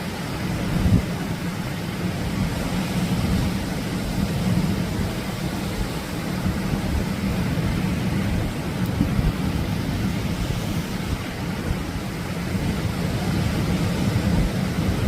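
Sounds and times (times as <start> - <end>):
waves breaking: 0.0 - 15.0.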